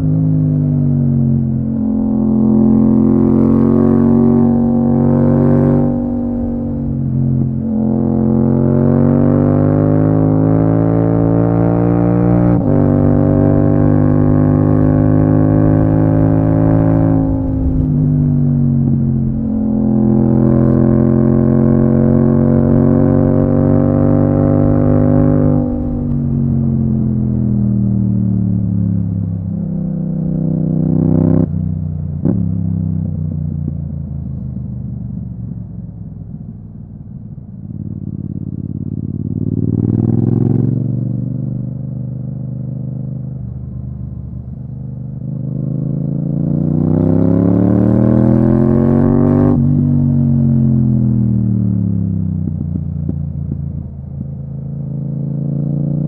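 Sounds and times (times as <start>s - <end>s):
motorcycle engine revving: 0.0s - 33.2s, 37.6s - 56.0s.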